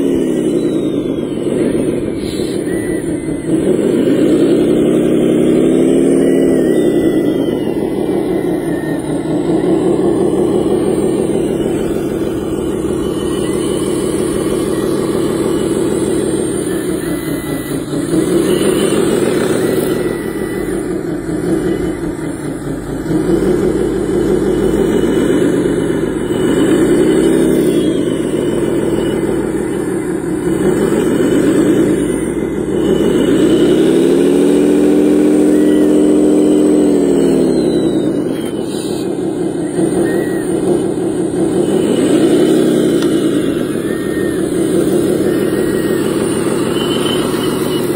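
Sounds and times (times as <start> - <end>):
toy loader motor running: 0.0 - 47.9.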